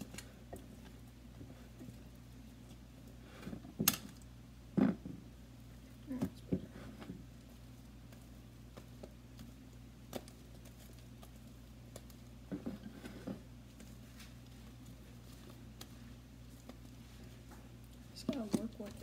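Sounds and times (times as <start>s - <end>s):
slime squelching: 0.0s - 19.0s.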